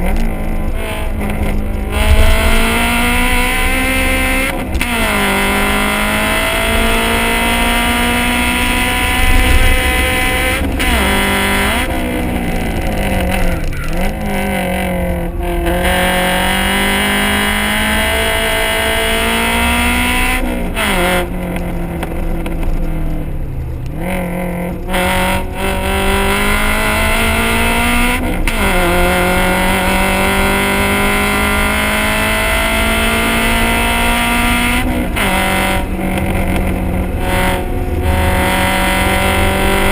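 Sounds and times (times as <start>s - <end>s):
car engine and exhaust revving: 0.0s - 39.9s.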